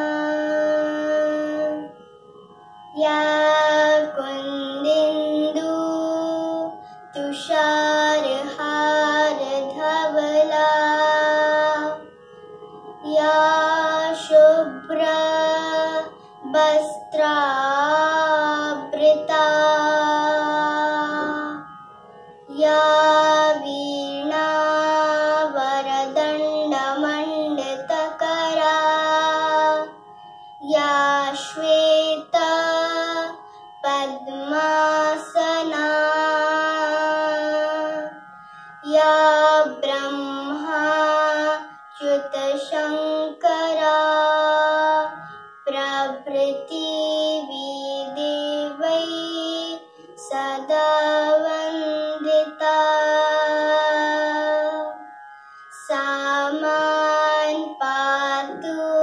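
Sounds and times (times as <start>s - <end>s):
girl singing melodic chant: 0.0s - 2.0s, 2.8s - 12.2s, 12.8s - 59.0s.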